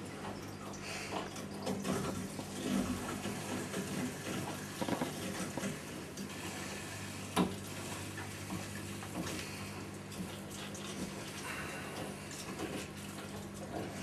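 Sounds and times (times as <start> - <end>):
circulation pumps humming: 0.0 - 14.0
water rushing through pipes: 0.0 - 14.0.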